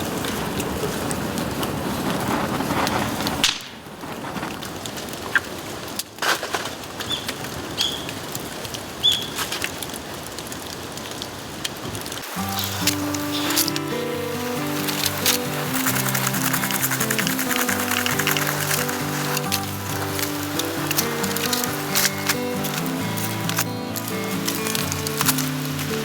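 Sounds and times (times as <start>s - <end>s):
bonfire crackling and popping: 0.0s - 26.0s.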